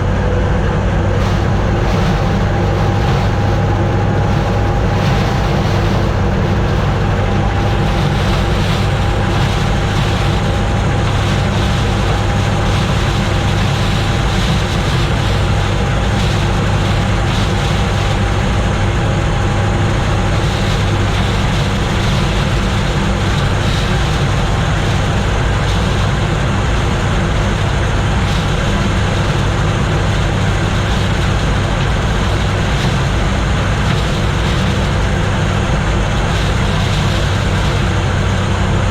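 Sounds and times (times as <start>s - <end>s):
combine harvester engine drone: 0.0s - 38.9s
thin steady whine: 0.0s - 38.9s.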